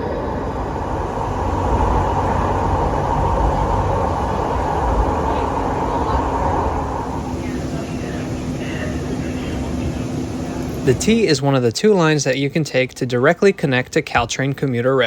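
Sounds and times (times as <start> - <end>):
light rail train rumbling: 0.0 - 12.2.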